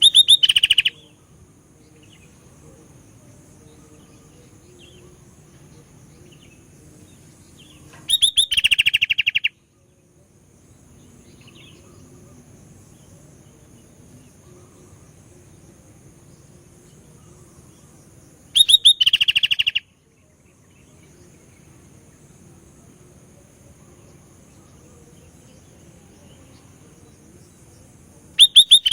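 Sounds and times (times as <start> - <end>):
bulbul singing: 0.0 - 28.9.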